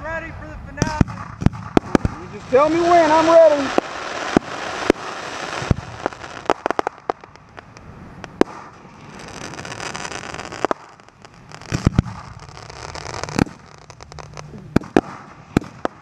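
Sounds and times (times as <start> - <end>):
fireworks crackling hiss: 0.1 - 16.0
fireworks bangs: 0.4 - 16.0.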